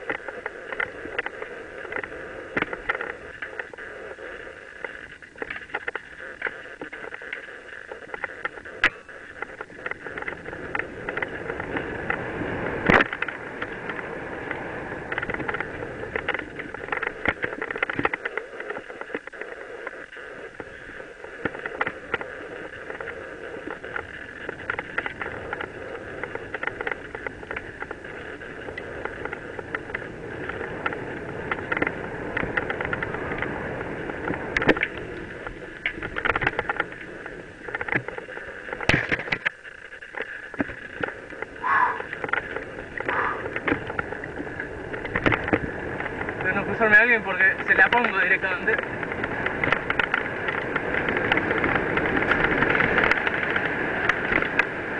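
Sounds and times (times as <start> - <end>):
tyre and wind rush: 0.0 - 39.4, 40.4 - 54.9
bike rattling over bumps: 0.0 - 54.9.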